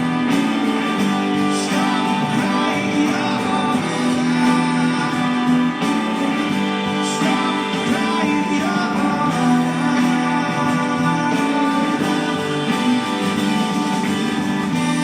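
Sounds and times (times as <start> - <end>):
guitar chords and held notes: 0.0 - 15.0
live rock band playing: 0.0 - 15.0.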